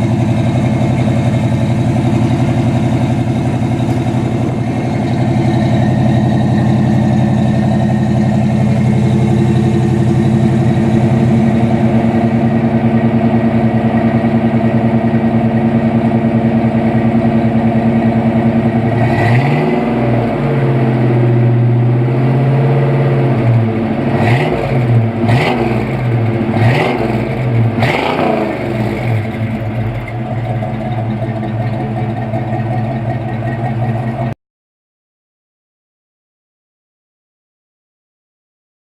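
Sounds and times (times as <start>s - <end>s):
car engine idling and revving: 0.0s - 34.4s.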